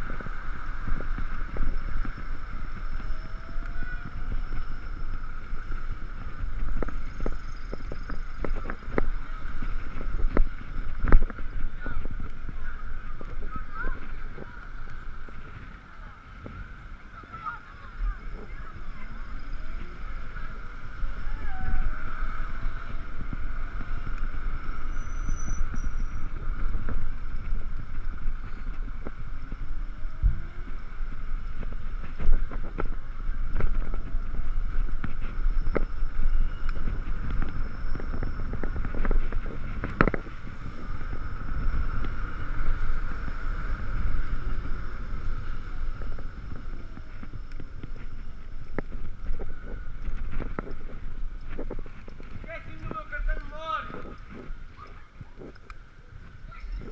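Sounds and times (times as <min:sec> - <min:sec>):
wind and wet road noise: 0:00.0 - 0:56.9.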